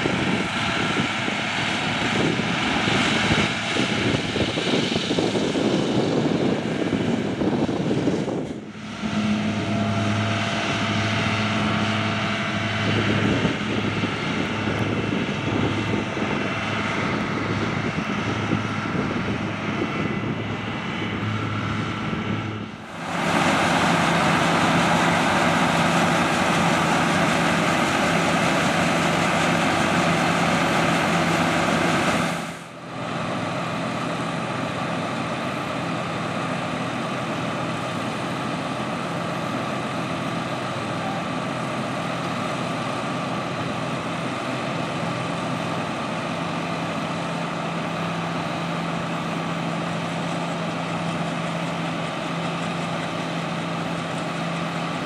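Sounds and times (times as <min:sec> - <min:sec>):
conveyor loading hopper: 0:00.0 - 0:55.0
diesel engines idling: 0:00.0 - 0:55.0.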